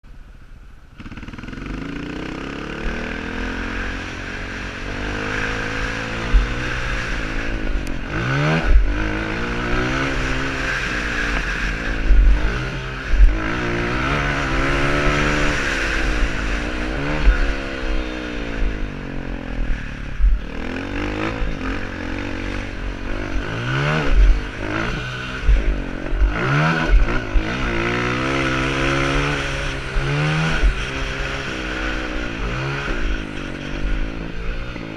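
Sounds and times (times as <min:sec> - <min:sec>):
dirt bike engine revving: 0:01.0 - 0:34.9.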